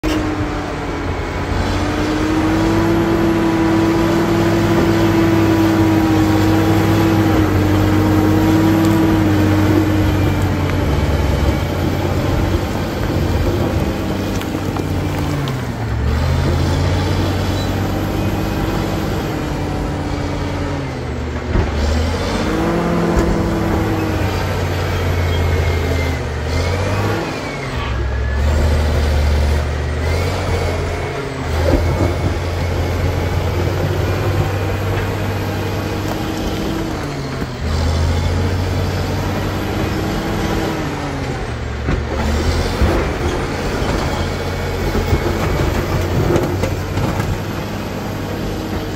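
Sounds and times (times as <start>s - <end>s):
bulldozer diesel engine under load: 0.0s - 48.9s.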